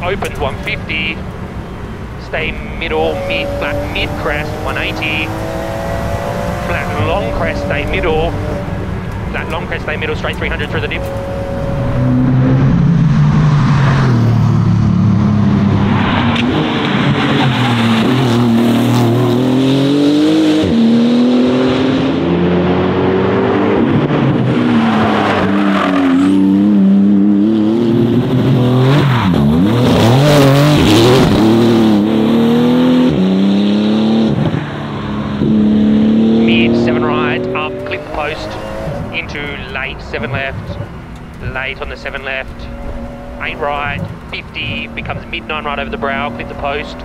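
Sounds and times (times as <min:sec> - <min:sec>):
racing car engine revving: 0:02.2 - 0:47.0.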